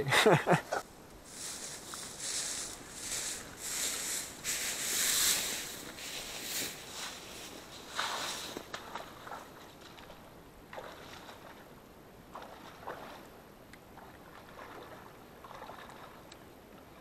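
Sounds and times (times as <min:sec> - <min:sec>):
footsteps wading through water: 0:01.2 - 0:17.0.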